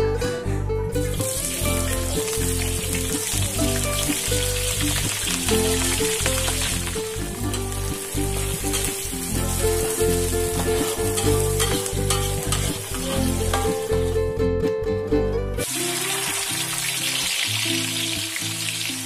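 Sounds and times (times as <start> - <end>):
background music with bass line: 0.0 - 19.0
food sizzling in a pan: 1.0 - 14.2, 15.6 - 19.0.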